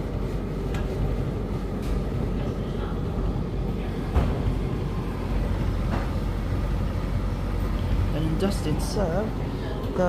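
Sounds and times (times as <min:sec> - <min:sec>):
tumble dryer drum rumbling: 0:00.0 - 0:10.0.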